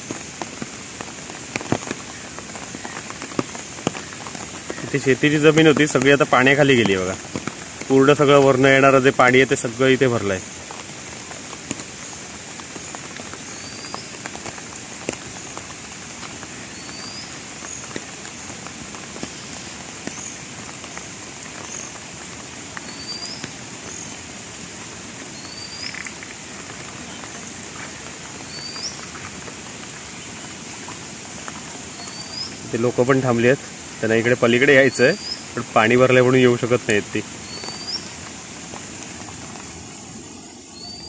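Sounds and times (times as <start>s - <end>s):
heavy rain on water: 0.0s - 41.0s.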